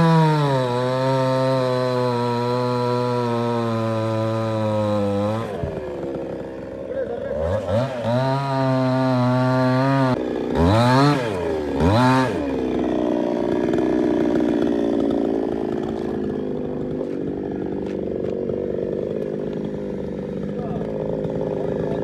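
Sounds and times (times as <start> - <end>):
chainsaw revving: 0.0 - 22.0.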